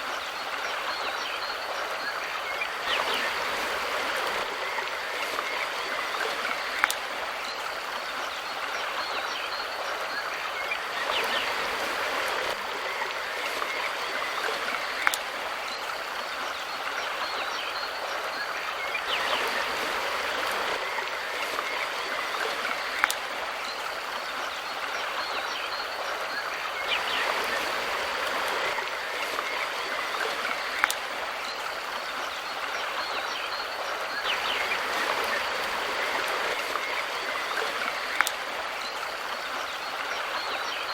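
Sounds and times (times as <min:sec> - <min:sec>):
river water rushing and burbling: 0:00.0 - 0:40.9.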